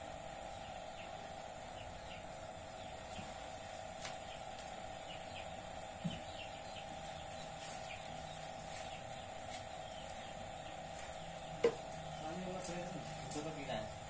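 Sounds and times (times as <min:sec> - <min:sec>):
birds chirping faintly: 0:00.0 - 0:14.0
steady hum: 0:00.0 - 0:14.0.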